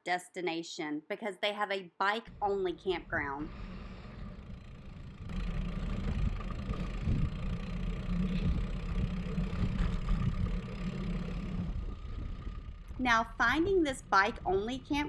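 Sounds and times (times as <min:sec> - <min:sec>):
car engine and road noise: 0:02.3 - 0:15.0.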